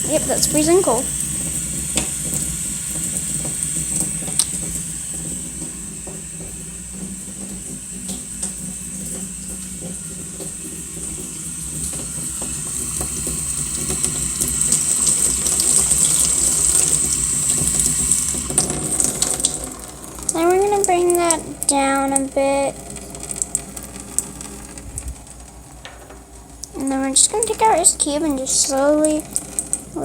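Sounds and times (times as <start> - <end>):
tap running into a sink: 0.0 - 30.0.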